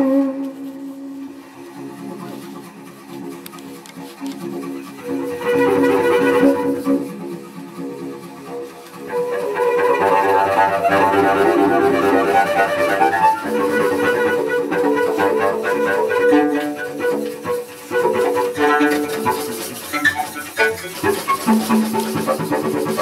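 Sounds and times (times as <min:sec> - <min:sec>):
bowed cello improvisation: 0:00.0 - 0:23.0.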